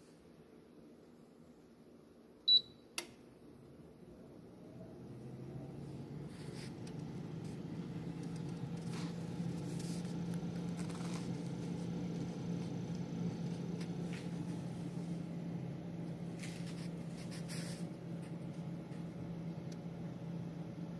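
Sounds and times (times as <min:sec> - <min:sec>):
air fryer fan humming: 0:02.4 - 0:20.9.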